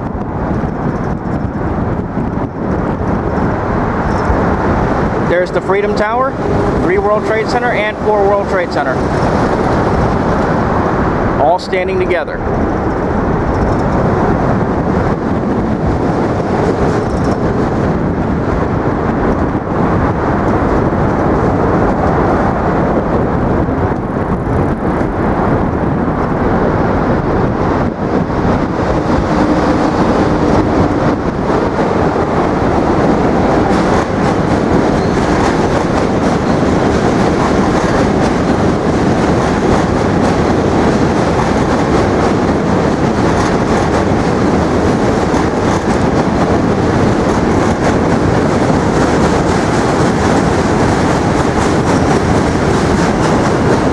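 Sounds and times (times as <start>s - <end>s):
subway train wheels rumbling: 0.0s - 53.9s.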